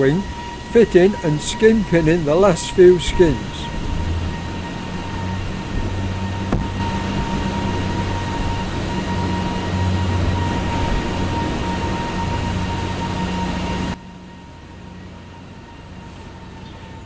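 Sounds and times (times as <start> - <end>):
workshop machinery hum: 0.0 - 14.0.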